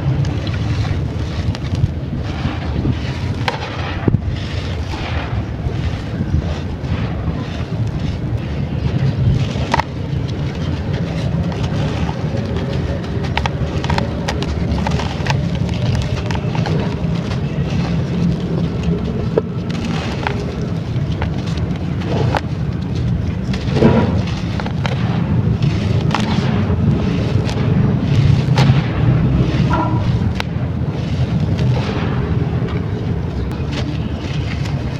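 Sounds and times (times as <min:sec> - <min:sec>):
clay crunching and cracking: 0:00.0 - 0:34.9.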